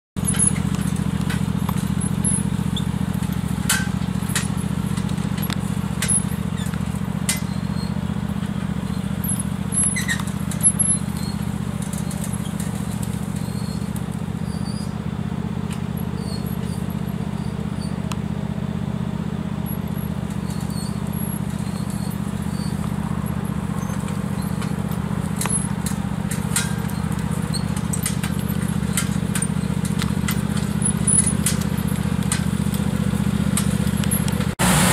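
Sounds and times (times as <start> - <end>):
sharp clicks and knocks: 0.2 - 7.8, 8.4 - 14.2, 19.9 - 34.6
lawn tractor engine humming: 0.2 - 34.9.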